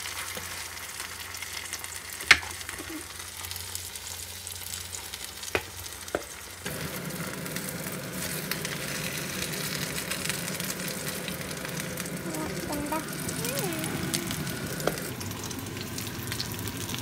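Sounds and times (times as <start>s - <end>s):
pancake sizzling in oil: 0.0s - 17.0s.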